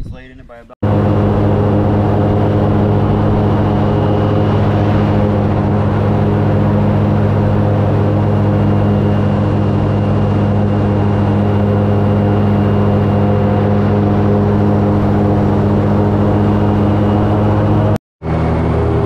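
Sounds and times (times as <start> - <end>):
airboat engine drone: 0.8 - 19.0.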